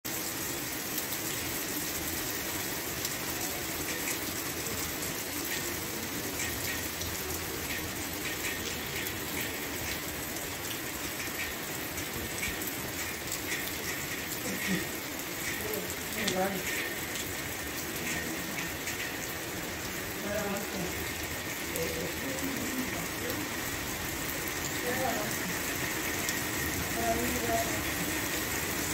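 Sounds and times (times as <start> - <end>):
rain on stone paving: 0.1 - 28.9
raindrops ticking: 0.1 - 28.9.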